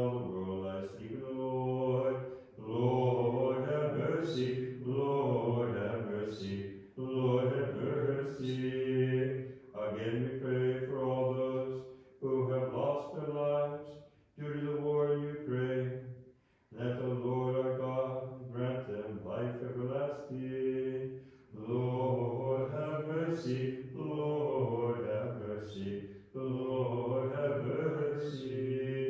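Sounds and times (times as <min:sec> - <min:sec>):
man chanting: 0:00.0 - 0:16.0, 0:16.7 - 0:21.0, 0:21.6 - 0:29.0.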